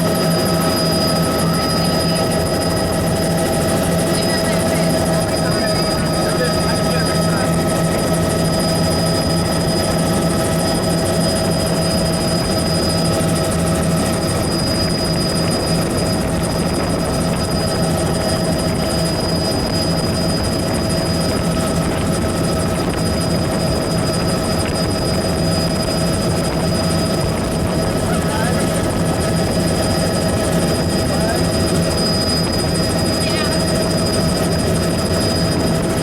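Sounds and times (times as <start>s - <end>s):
helicopter rotor and engine drone: 0.0s - 36.0s.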